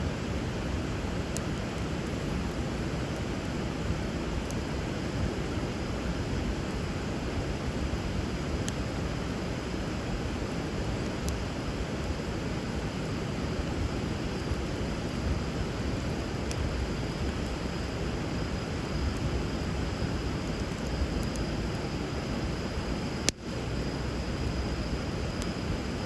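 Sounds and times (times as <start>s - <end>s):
bonfire crackling: 0.0s - 26.0s
fire popping: 0.1s - 26.0s.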